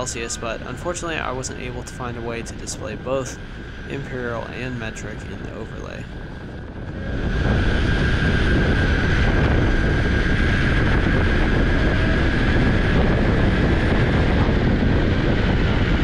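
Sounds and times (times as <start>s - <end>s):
electric motor whine: 0.0s - 16.0s
wind rumble on microphone: 0.0s - 16.0s.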